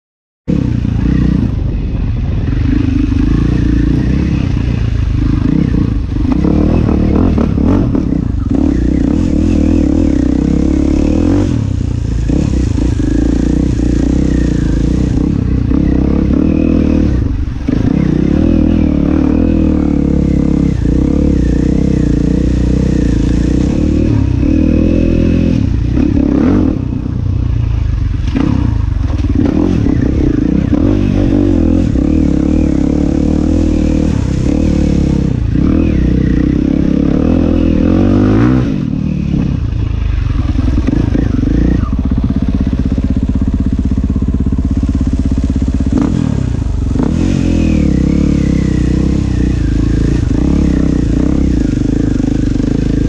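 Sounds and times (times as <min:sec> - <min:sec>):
dirt bike engine revving: 0:00.5 - 0:53.0.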